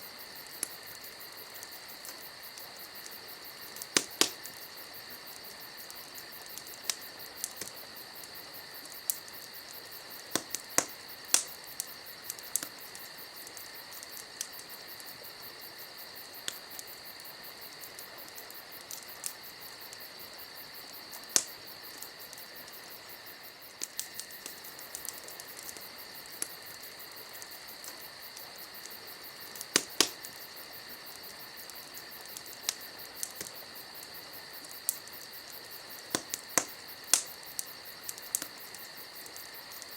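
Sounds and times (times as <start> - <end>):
campfire crackling: 0.0 - 39.9
insects chirring: 0.0 - 39.9.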